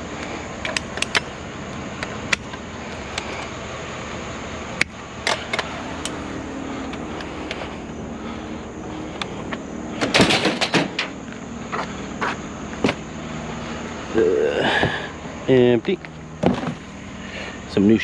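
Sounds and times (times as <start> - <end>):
steady background rumble: 0.0 - 18.0.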